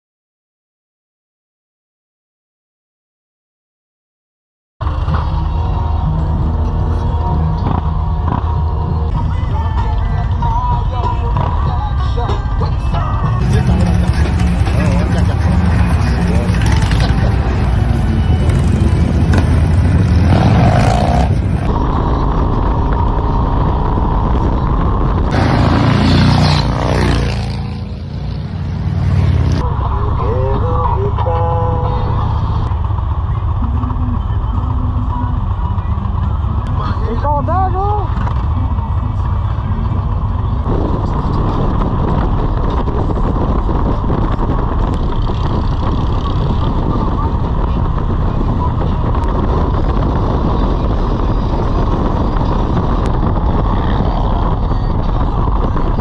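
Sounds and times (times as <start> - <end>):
motorcycle engines rumbling and revving: 4.8 - 56.0
road noise: 4.8 - 56.0
wind noise: 4.8 - 56.0.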